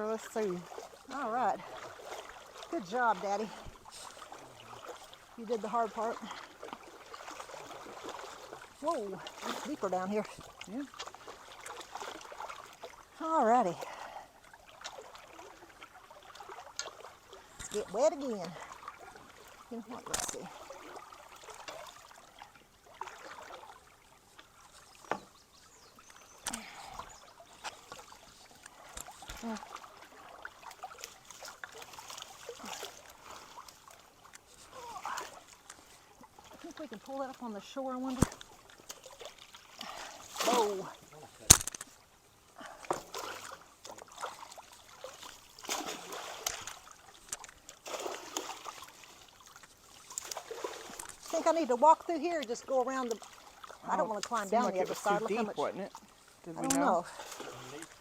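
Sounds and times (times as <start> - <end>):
water sloshing and splashing: 0.0 - 58.0.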